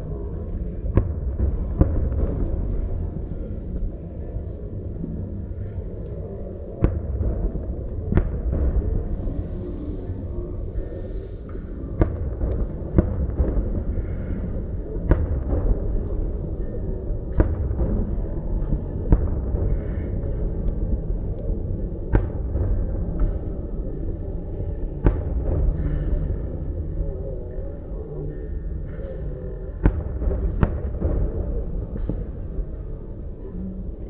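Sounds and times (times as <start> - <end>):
low rumble and crackle: 0.0 - 34.0.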